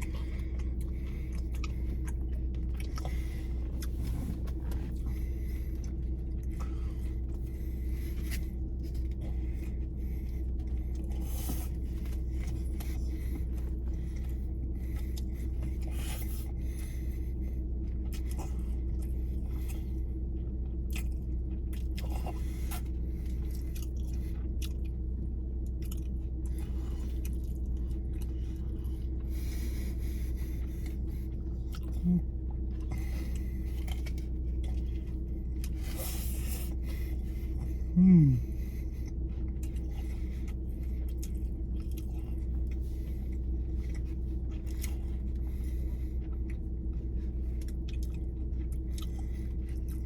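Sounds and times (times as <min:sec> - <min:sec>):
chewing and biting food: 0:00.0 - 0:50.0
low steady hum: 0:00.0 - 0:50.0.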